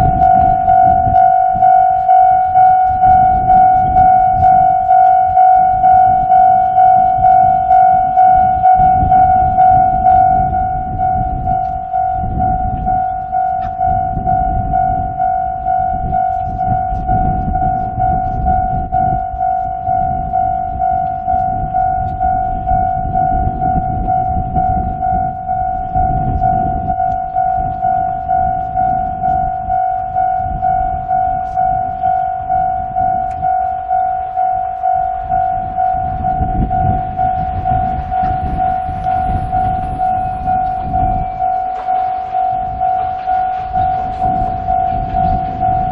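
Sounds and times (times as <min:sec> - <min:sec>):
level crossing alarm ringing: 0:00.0 - 0:45.9
wind rumbling on microphone: 0:00.0 - 0:45.9.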